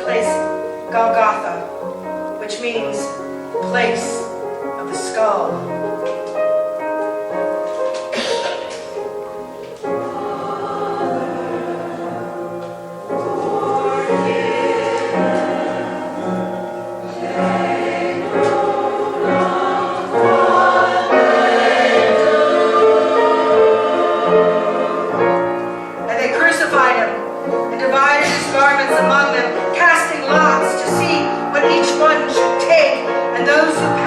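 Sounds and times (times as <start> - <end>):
choir singing sustained chords: 0.0 - 34.0.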